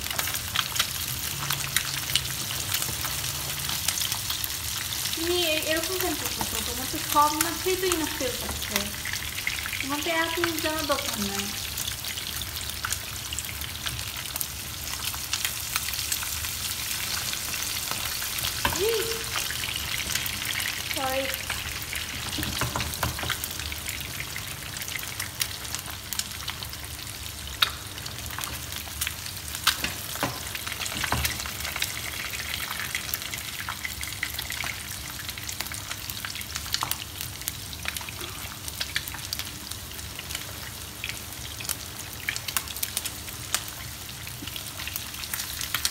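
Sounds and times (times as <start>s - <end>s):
fish frying in hot oil: 0.0s - 45.9s.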